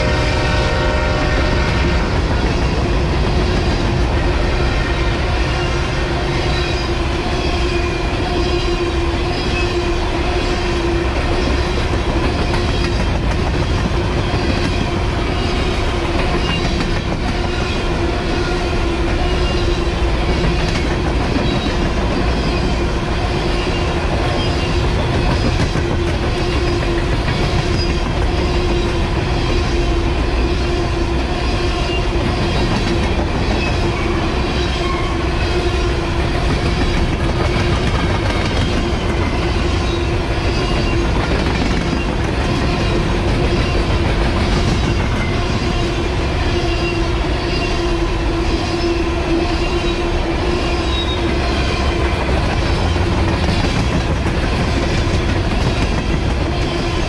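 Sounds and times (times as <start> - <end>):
clickety-clack over rail joints: 0.0 - 47.7, 50.7 - 57.0
train wheels rumbling on rails: 0.0 - 57.0.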